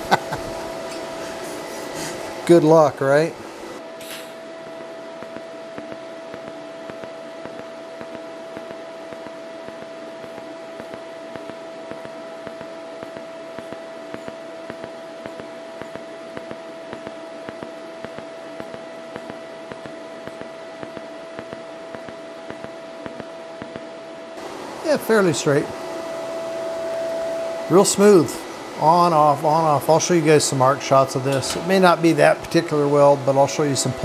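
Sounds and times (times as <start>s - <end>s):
welding arc pulses: 0.0s - 31.0s
welding arc hissing buzz: 0.0s - 34.0s.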